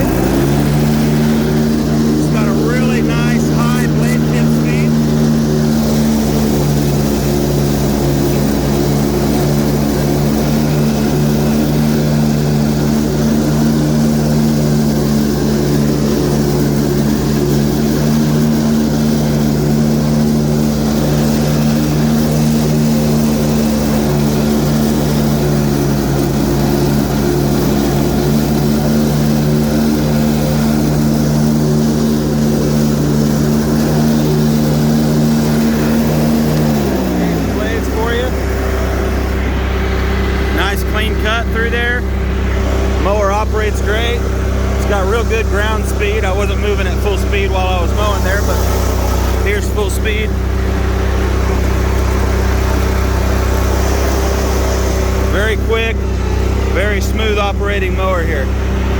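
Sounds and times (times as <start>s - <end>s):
lawn mower engine running: 0.0s - 58.9s
mower blades cutting grass: 0.0s - 58.9s.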